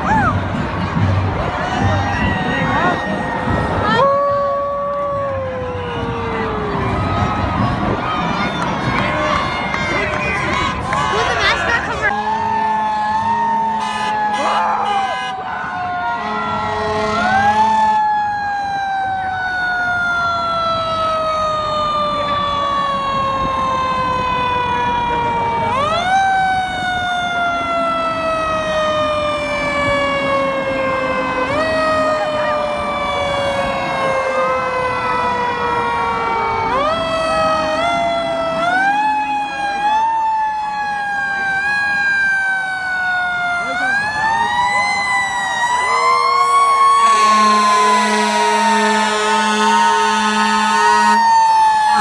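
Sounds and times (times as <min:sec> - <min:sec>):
fire truck siren wailing: 0:00.0 - 0:52.0.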